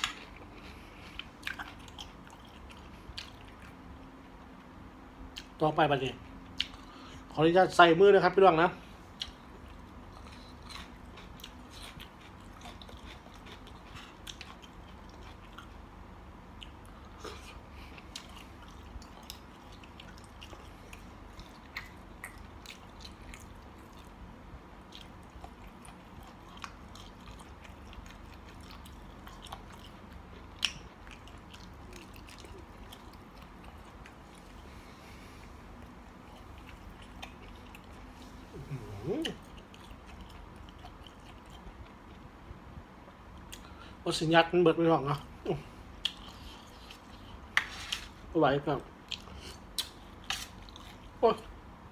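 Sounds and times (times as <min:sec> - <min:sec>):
person chewing food: 0:00.0 - 0:05.5, 0:06.4 - 0:07.3, 0:08.8 - 0:42.3, 0:45.4 - 0:48.2, 0:49.0 - 0:51.6.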